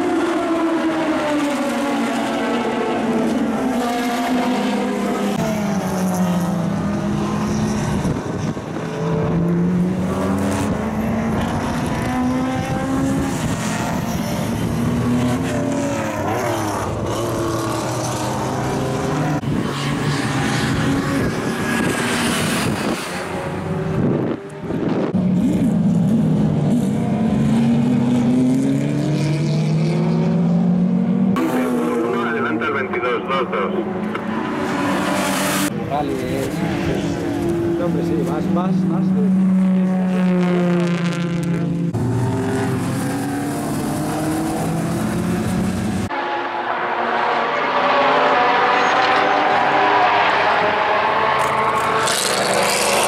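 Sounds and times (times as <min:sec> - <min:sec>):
racing car engines passing by: 0:00.0 - 0:53.0.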